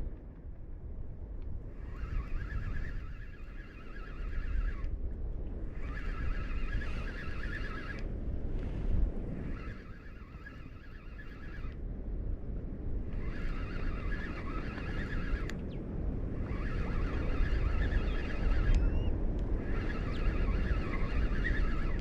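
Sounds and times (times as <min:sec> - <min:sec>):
wind: 0:00.0 - 0:22.0
fishing reel gear whine: 0:01.7 - 0:05.0, 0:05.6 - 0:08.4, 0:09.0 - 0:11.8, 0:13.0 - 0:22.0.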